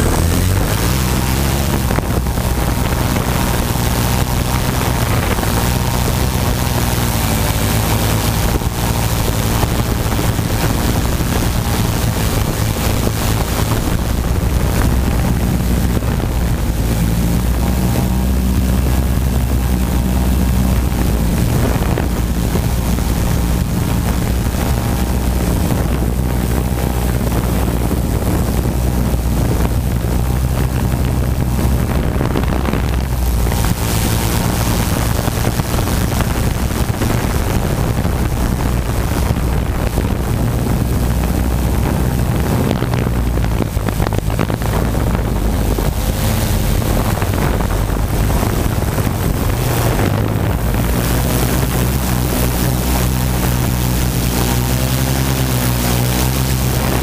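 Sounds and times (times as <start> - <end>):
drone motors humming: 0.0 - 57.0
propellers rushing: 0.0 - 57.0.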